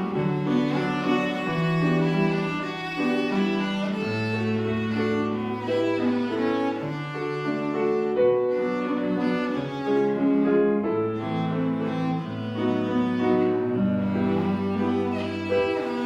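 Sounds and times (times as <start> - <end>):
cello melody: 0.0 - 16.0
piano accompaniment: 0.0 - 16.0.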